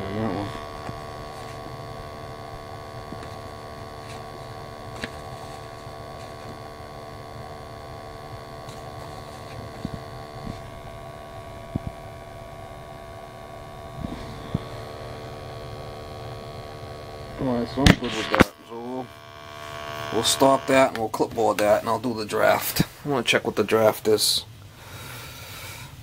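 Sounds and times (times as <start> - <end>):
sampling pump humming: 0.0 - 26.0.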